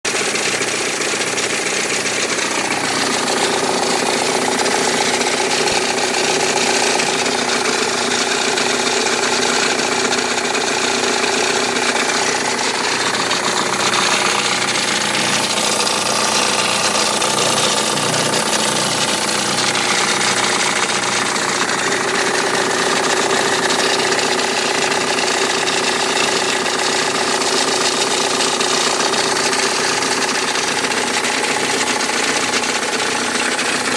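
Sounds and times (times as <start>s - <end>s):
abnormal mechanical engine noise: 0.1s - 33.9s
diesel engine idling: 0.1s - 33.9s.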